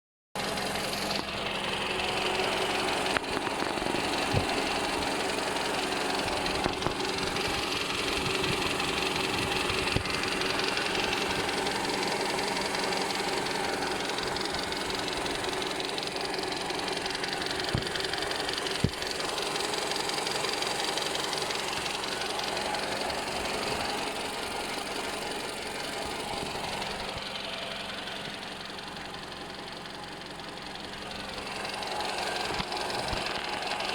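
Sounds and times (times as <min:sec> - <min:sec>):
car engine running with knock: 0:00.4 - 0:33.9
sharp engine clicks: 0:00.8 - 0:33.9.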